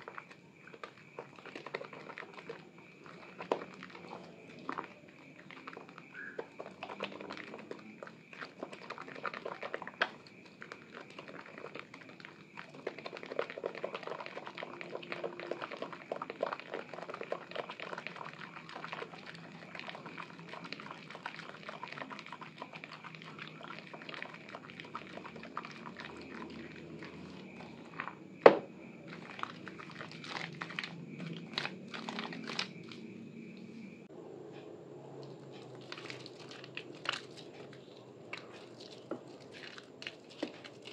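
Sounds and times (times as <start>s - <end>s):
foam bubbles crackling: 0.0s - 33.1s, 35.5s - 40.9s
wet soap squelching: 0.0s - 33.8s, 35.2s - 40.9s.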